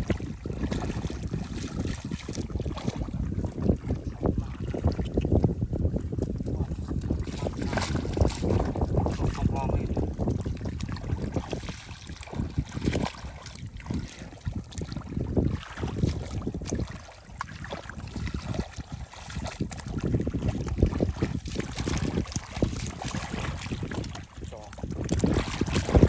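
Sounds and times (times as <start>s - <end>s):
shallow water splashing: 0.0s - 26.0s
wind buffeting microphone: 0.0s - 26.0s.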